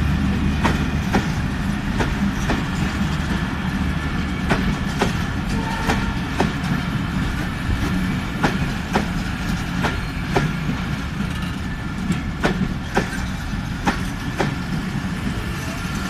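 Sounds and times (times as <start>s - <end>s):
train rumbling on rails: 0.0s - 16.0s
wheels clacking on rail joints: 0.4s - 16.0s.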